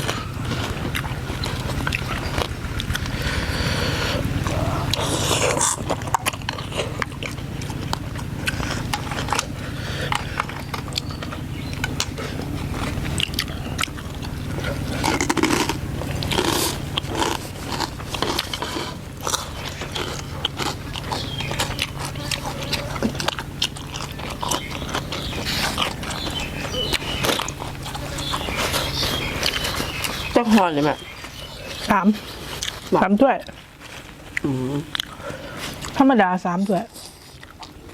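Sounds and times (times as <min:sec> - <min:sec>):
low hum: 0:00.0 - 0:32.9
crunchy chewing: 0:00.0 - 0:37.9.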